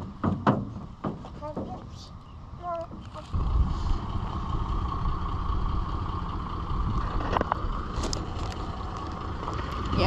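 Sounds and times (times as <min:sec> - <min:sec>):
truck engine low rumble: 0:00.0 - 0:10.0.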